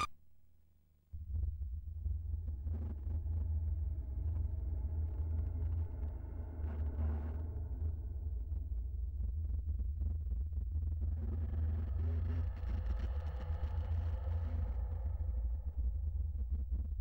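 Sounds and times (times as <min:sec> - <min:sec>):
low suspense drone: 0:01.2 - 0:17.0.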